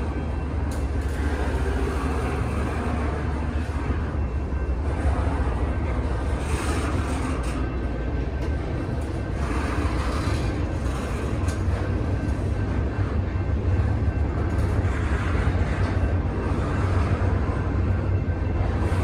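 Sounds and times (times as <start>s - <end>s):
sharp train clanks: 0.0s - 19.0s
train wheels rumbling on rail: 0.0s - 19.0s.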